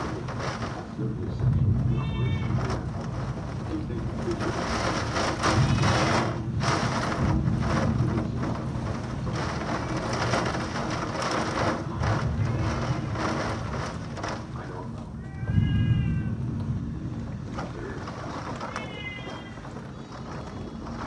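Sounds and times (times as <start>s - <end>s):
heavy rain pouring: 0.0s - 21.0s
low thunder rumble: 0.0s - 21.0s.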